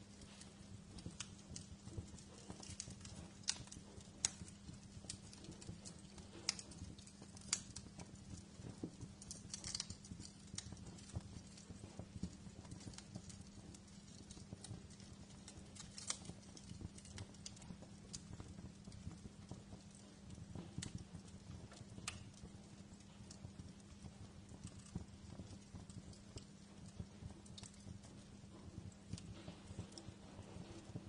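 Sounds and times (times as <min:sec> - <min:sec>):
low steady hum: 0:00.0 - 0:31.0
wood fire crackling: 0:00.0 - 0:31.0.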